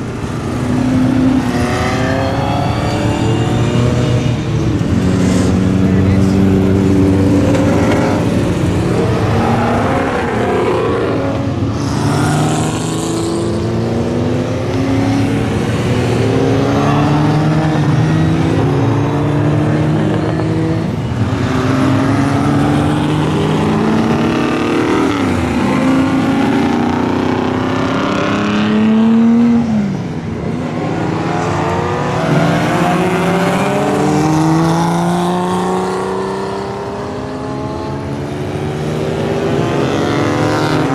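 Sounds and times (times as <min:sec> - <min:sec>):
race car engines accelerating: 0:00.0 - 0:40.9.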